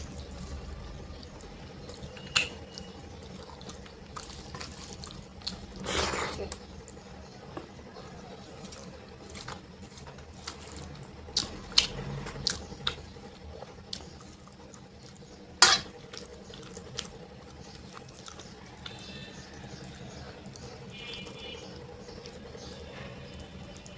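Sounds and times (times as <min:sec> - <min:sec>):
wet chewing with smacks: 0:00.0 - 0:07.2, 0:08.6 - 0:23.9.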